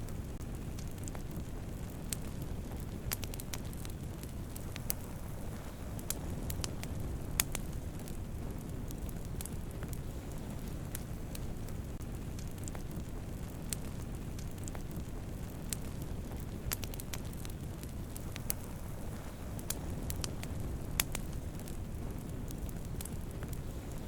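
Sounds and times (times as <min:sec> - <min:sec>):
campfire flames rushing: 0:00.0 - 0:24.0
fire crackles and pops: 0:00.0 - 0:24.0.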